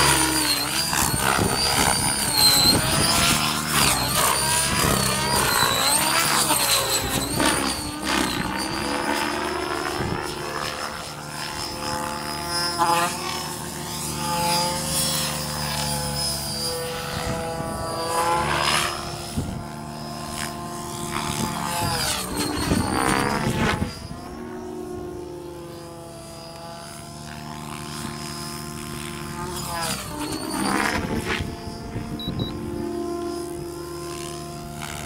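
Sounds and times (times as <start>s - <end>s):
rc helicopter rotor whine: 0.0s - 35.0s.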